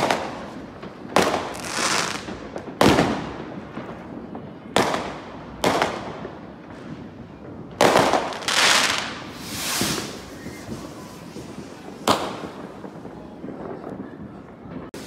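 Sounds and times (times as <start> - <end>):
firework bangs: 0.0 - 15.0
firework bursts: 0.0 - 15.0.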